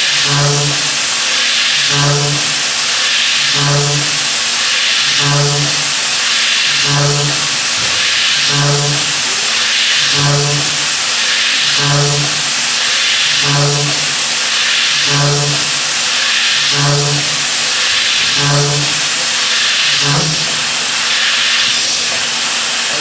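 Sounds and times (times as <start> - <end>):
milling machine hiss: 0.0 - 23.0.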